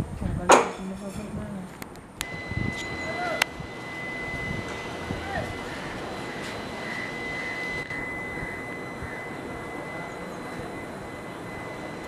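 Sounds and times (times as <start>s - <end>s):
high-pitched whine: 2.1s - 12.0s.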